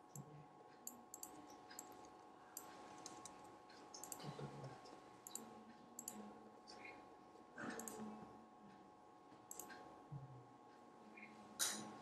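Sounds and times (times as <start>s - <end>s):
faint room tone hum: 0.0s - 12.0s.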